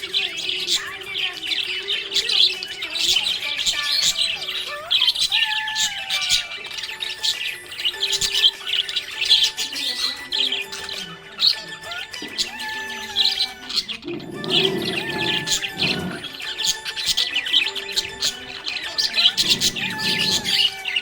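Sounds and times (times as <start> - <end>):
budgerigars chirping: 0.0 - 21.0
harsh bird squawks: 0.0 - 21.0.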